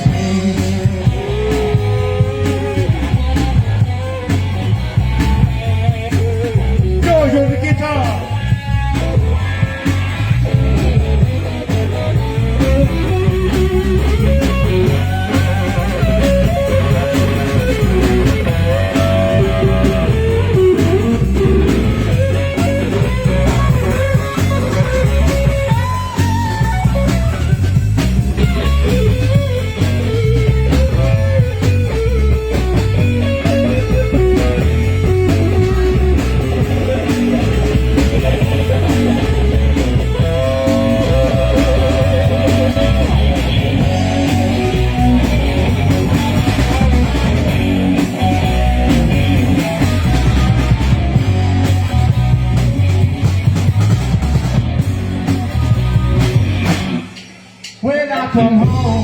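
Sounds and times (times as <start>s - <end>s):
blues-rock band playing: 0.0s - 59.0s
electric guitar lead line: 0.0s - 59.0s.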